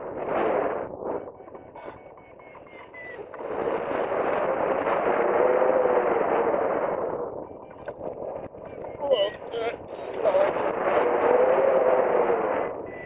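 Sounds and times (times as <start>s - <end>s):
wind rushing over microphone: 0.0s - 2.0s, 3.1s - 13.0s.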